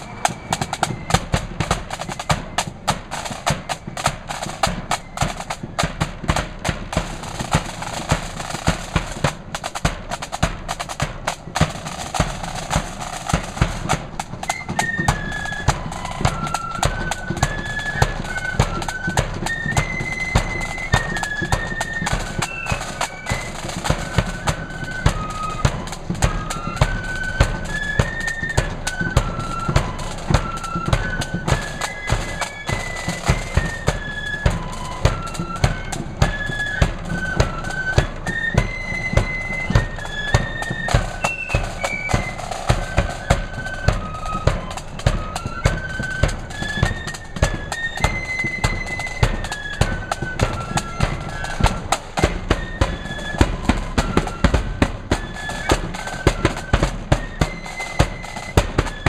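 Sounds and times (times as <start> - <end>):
flute melody: 0.0 - 59.0
snare drum strokes: 0.0 - 59.0.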